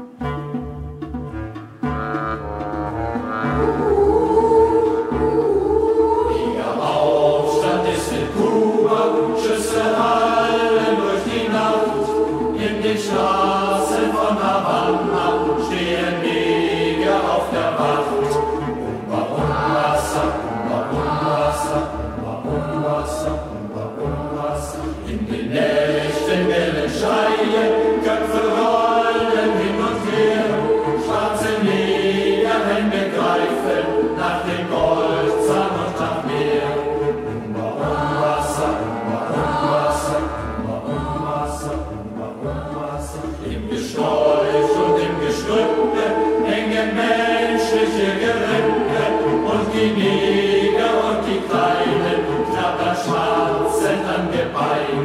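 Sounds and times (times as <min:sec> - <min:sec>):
group singing a chant: 0:03.4 - 0:55.0.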